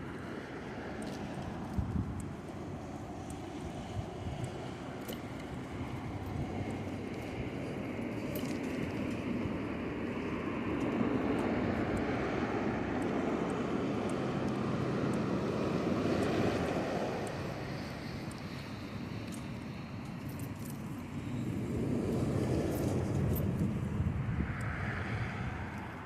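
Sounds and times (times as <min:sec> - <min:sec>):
faint ticks: 0:00.0 - 0:23.8, 0:24.4 - 0:26.0
wind and road noise while cycling: 0:00.0 - 0:26.0.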